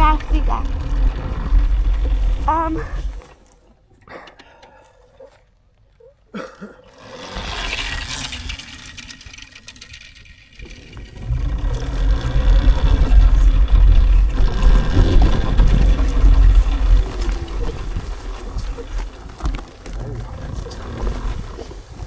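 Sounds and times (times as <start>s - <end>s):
dirt bike rumble and rattle: 0.0s - 4.3s, 6.4s - 22.0s.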